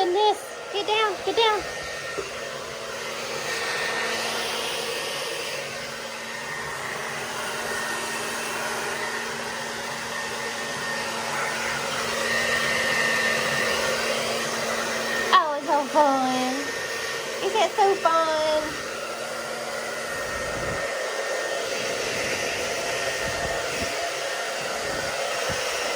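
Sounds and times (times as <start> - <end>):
hair dryer blowing: 0.0 - 25.9.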